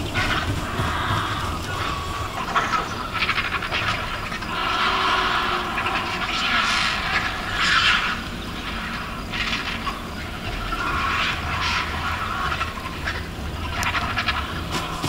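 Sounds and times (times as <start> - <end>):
vultures rasping and hissing: 0.0 - 9.9, 10.7 - 15.0.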